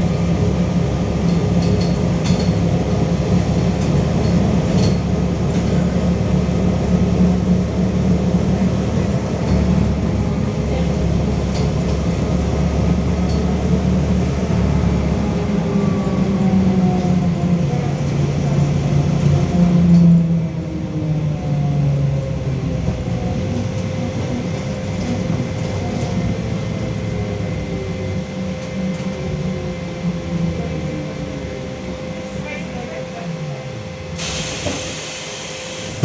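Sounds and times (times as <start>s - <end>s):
bus running rumble: 0.0s - 36.0s.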